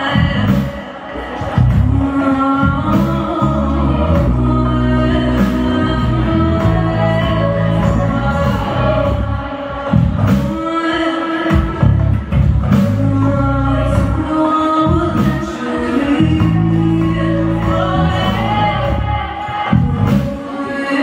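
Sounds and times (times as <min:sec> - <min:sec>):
live band playing a song: 0:00.0 - 0:21.0
person singing: 0:00.0 - 0:21.0.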